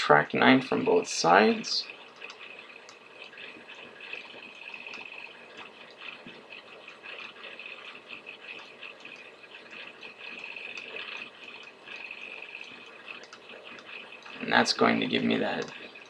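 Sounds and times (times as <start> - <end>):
stylus scratching and tapping: 0.8 - 16.0.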